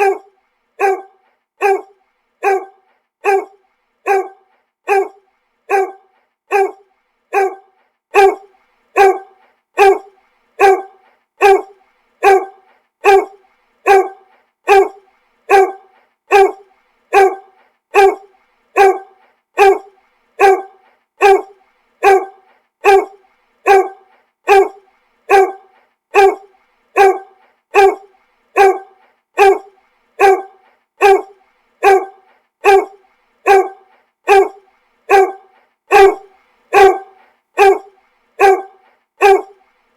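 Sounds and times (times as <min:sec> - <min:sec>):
dog barking: 0:00.0 - 0:39.6.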